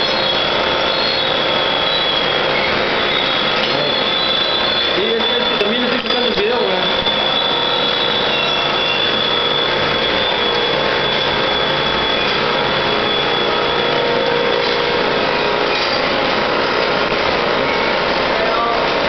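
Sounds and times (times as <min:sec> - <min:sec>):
machine whirring with high whine: 0:00.0 - 0:19.0.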